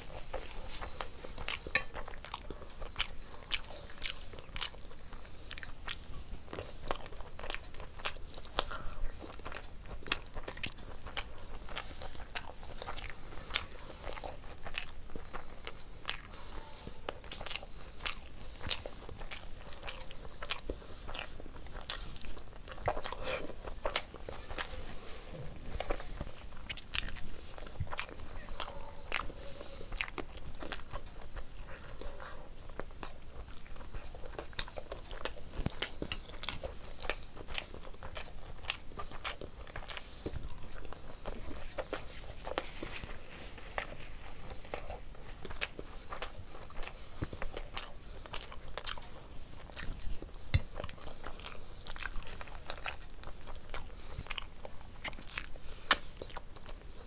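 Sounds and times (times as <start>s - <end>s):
chewing and wet mouth sounds: 0.0s - 57.0s.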